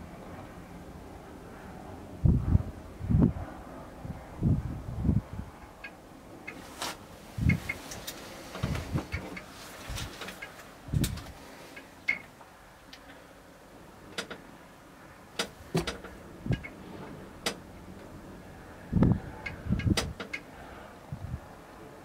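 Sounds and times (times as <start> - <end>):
quiet outdoor background: 0.0 - 22.0.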